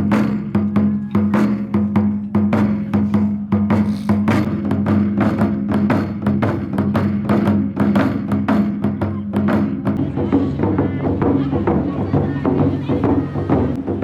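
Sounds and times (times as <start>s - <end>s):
sharp percussive strikes: 0.0s - 14.0s.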